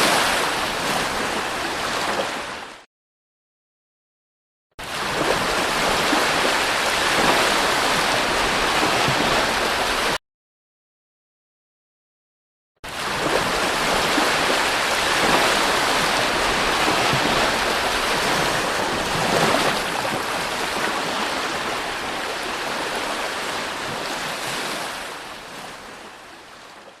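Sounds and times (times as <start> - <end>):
sea waves breaking on shore: 0.0 - 2.9, 4.8 - 10.2, 12.9 - 27.0.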